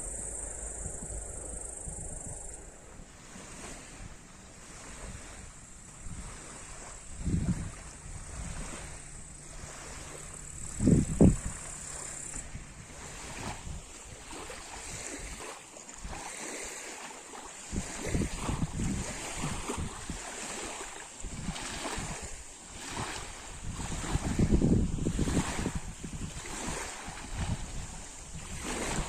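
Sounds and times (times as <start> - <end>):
water lapping at shore: 0.0 - 29.0
wind on microphone: 0.0 - 29.0.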